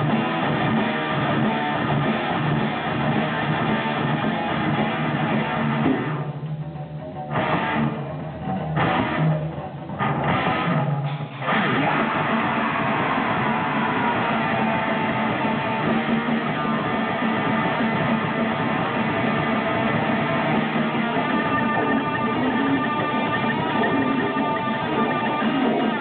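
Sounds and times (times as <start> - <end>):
live metal band playing: 0.0 - 26.0.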